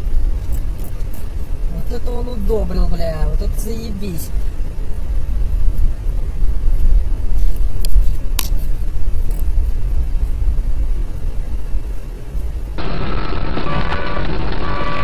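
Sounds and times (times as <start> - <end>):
moving car rumble: 0.0 - 15.0.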